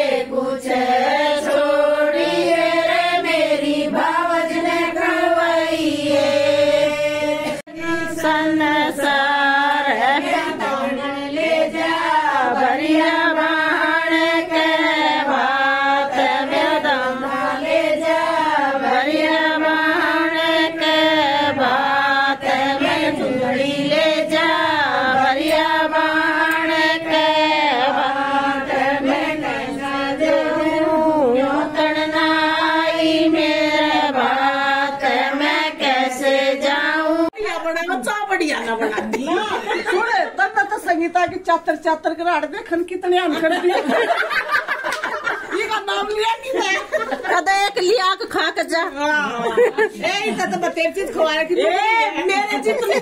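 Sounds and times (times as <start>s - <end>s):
women singing in unison: 0.0s - 37.6s, 43.3s - 53.0s.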